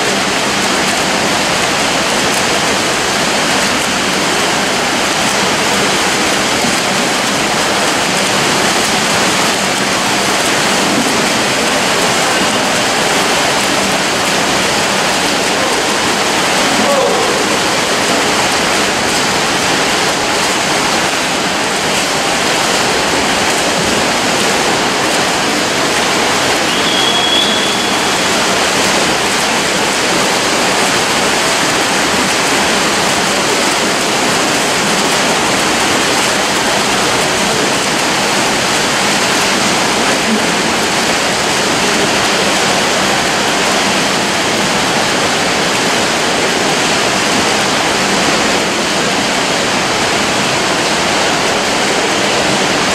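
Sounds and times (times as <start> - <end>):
swimmers splashing: 0.0 - 52.8.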